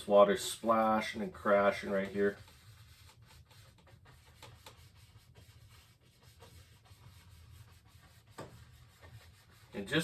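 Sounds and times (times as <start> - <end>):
paintbrush scratching on canvas: 0.0 - 10.0.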